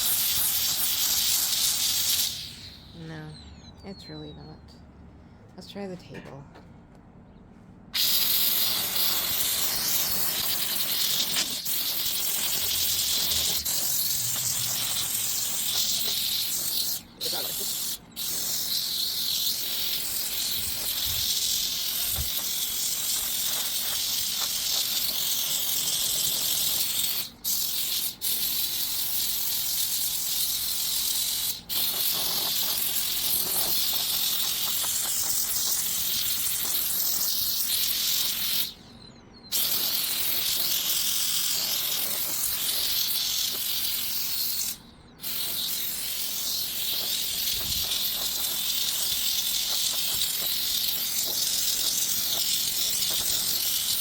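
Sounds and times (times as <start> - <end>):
steam cleaner hissing: 0.0 - 3.2, 8.0 - 38.8, 39.5 - 54.0.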